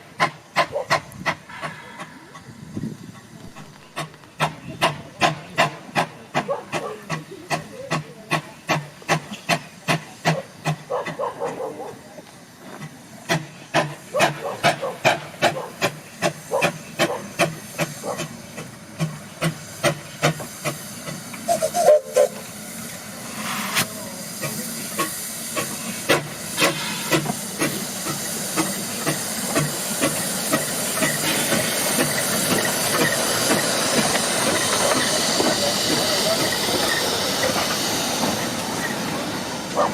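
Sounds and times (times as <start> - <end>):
steam hissing: 0.0 - 39.9
steam locomotive chuffing: 0.0 - 39.9.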